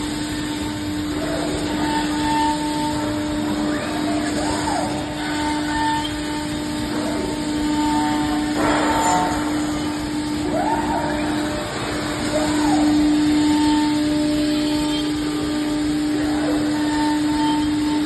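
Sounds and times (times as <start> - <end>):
machine motor hum: 0.0 - 18.0
rising and falling machine whines: 0.0 - 18.0.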